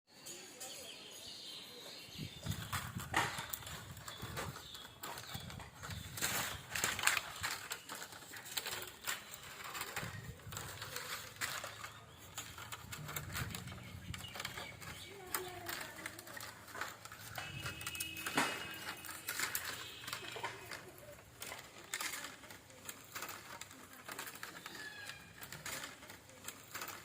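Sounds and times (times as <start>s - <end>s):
faint voices: 0.2s - 27.0s.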